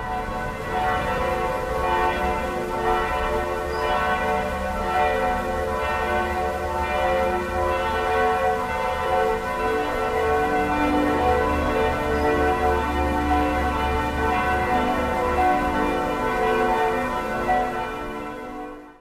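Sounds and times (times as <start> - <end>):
church bell tolling: 0.0 - 19.0.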